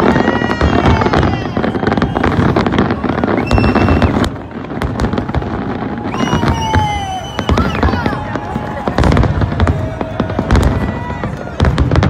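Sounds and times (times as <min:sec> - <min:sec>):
fireworks bursting and crackling: 0:00.0 - 0:12.0
fireworks whistling: 0:00.0 - 0:12.0.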